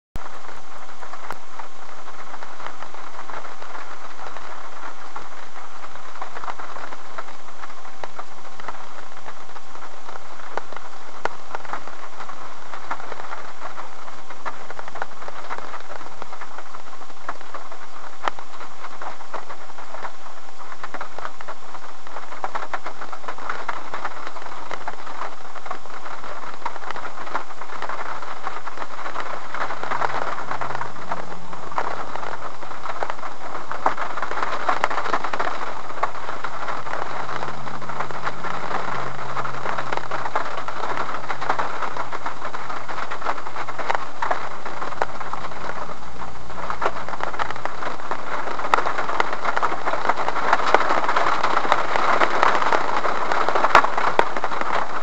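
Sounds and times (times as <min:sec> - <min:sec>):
microphone hiss: 0:00.0 - 0:55.0
raindrops ticking on car: 0:00.2 - 0:55.0.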